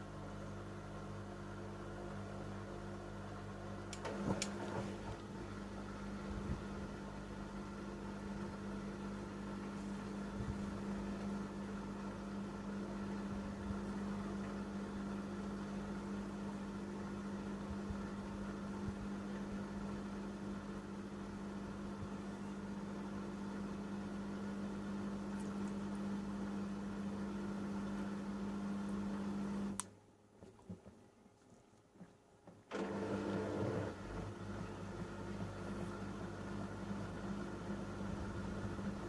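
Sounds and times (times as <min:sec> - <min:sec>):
washing machine humming: 0:00.0 - 0:29.9, 0:32.0 - 0:39.0.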